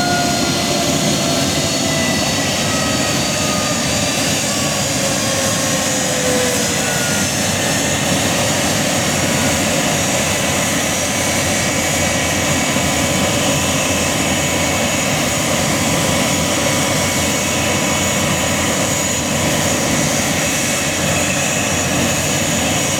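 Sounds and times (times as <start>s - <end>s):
jet engines running: 0.0s - 22.9s
steady whining tones: 0.0s - 22.9s.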